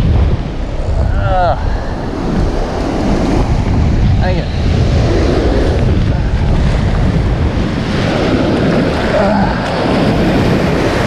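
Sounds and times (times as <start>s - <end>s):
surf washing in shallows: 0.0s - 11.0s
wind rumble on microphone: 0.0s - 11.0s.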